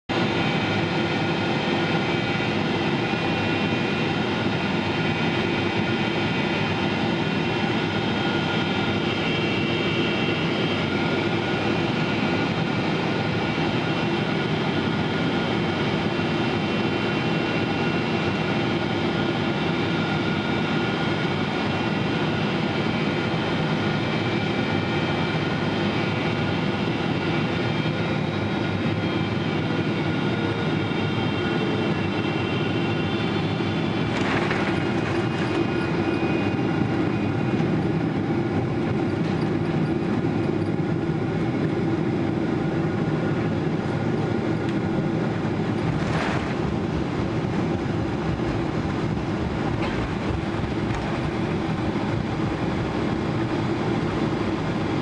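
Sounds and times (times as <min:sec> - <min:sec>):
jet engine drone in cabin: 0:00.1 - 0:55.0.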